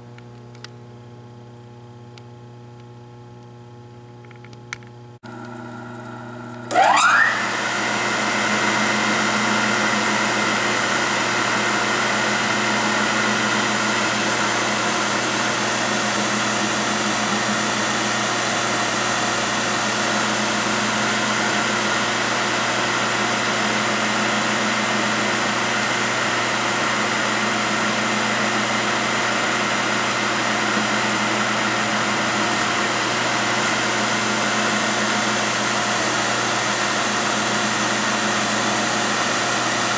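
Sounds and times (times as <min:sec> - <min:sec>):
milling machine motor whine: 0:05.3 - 0:39.9.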